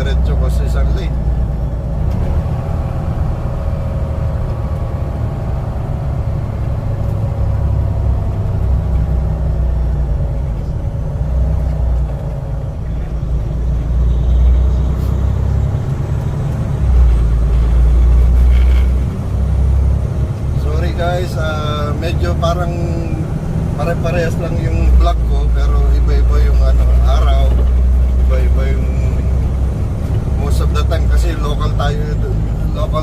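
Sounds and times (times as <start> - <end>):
road noise: 0.0 - 33.0
truck engine rumble: 0.0 - 33.0.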